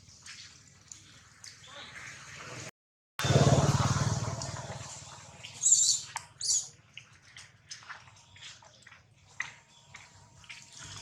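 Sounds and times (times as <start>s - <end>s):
water dripping: 0.0s - 2.3s, 4.2s - 11.0s
water splashing: 0.0s - 11.0s.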